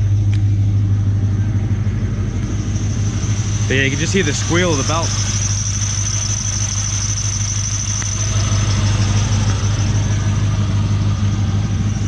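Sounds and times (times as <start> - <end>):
car engine idling: 0.0 - 12.0
high steady squeal: 0.0 - 12.0.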